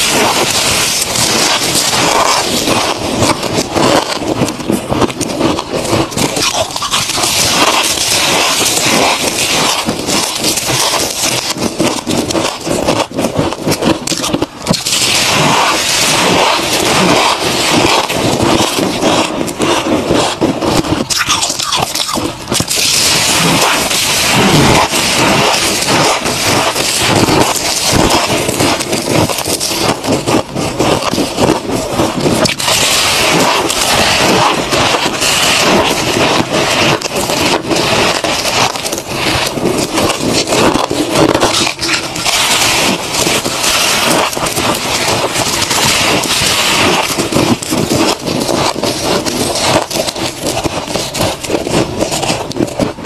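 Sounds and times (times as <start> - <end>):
frost crumpling in gloved hands: 0.0 - 53.0
frost crunching being chewed: 3.6 - 15.2, 21.0 - 31.6, 32.3 - 52.9.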